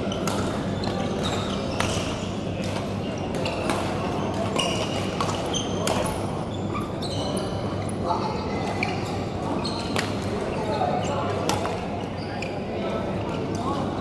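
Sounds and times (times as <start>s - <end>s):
shoes squeaking on court floor: 0.1s - 13.3s.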